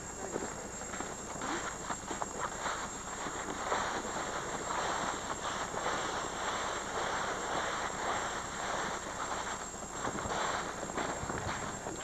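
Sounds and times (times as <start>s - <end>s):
footsteps walking: 0.0s - 12.0s
steady rushing background noise: 0.0s - 12.0s.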